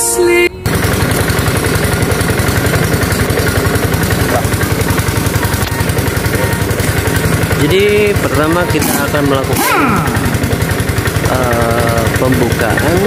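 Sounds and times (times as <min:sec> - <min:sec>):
impact wrench rattling: 0:00.7 - 0:13.0.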